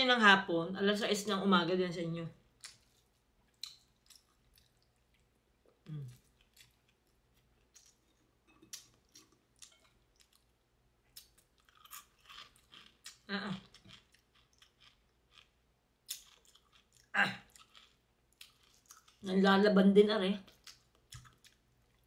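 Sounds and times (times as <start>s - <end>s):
chewing crispy food: 2.6s - 19.3s, 20.4s - 22.0s.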